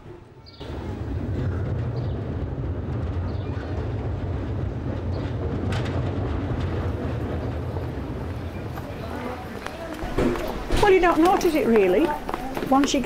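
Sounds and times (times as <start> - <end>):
low rumble of town ambience: 0.0 - 13.0.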